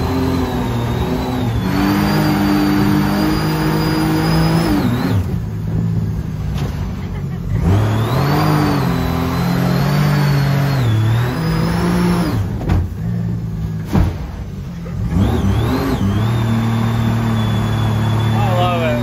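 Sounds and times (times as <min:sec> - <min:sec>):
boat engine revving: 0:00.0 - 0:19.0.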